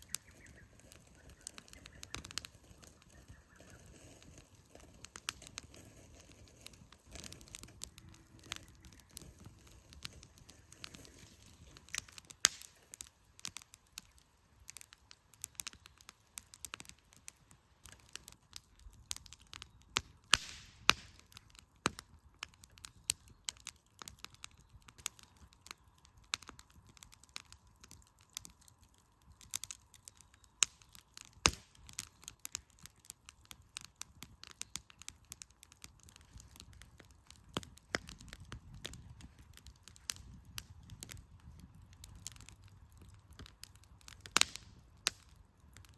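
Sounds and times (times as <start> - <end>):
campfire crackling: 0.0 - 45.9
fire popping and snapping: 0.0 - 45.9.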